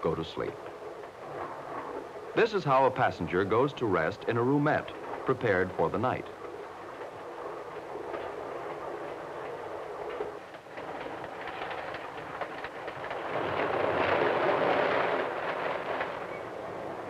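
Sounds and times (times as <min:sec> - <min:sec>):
train wheels clicking over rail joints: 0:00.0 - 0:17.0.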